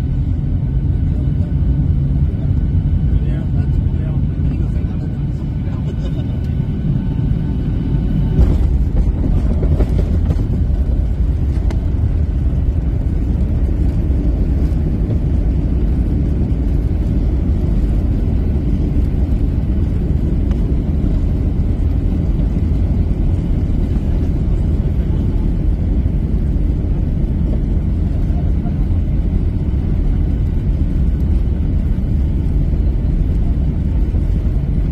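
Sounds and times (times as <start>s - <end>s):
jet airliner cabin rumble: 0.0s - 34.9s.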